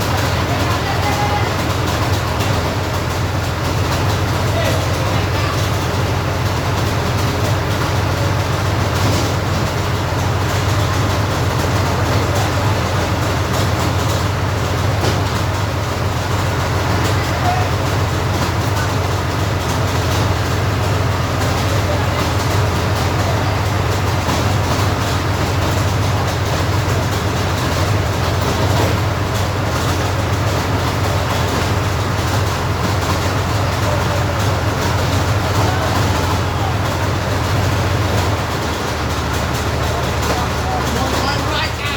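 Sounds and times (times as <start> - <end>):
heavy vehicle engine droning: 0.0 - 41.9.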